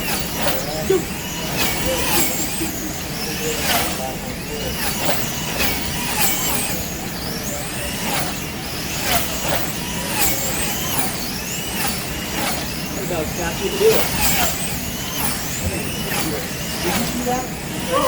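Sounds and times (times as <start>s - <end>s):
slot car motors whining: 0.0s - 18.0s.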